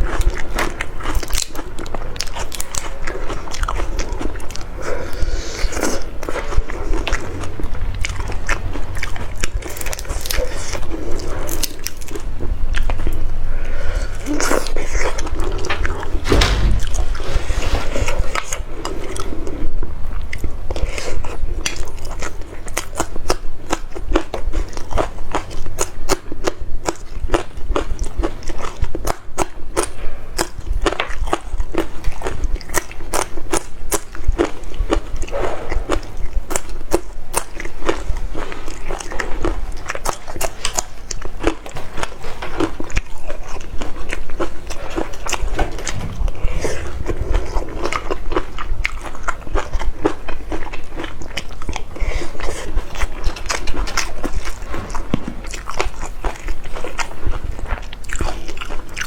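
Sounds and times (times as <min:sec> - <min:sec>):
food being bitten and chewed: 0:00.0 - 0:59.0.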